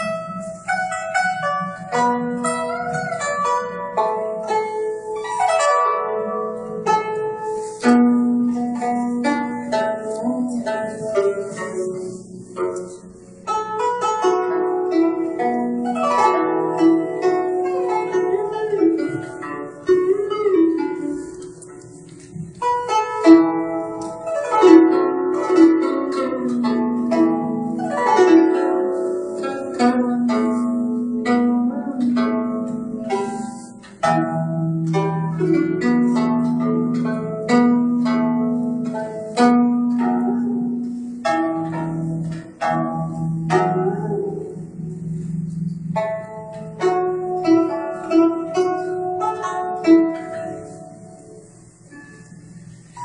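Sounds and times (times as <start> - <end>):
plucked zither notes: 0.0 - 53.0.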